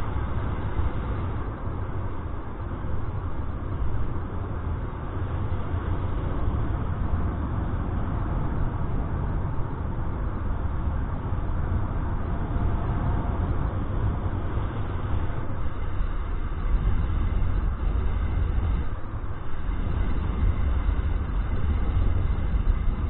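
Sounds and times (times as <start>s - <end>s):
wind buffeting microphone: 3.6s - 23.0s.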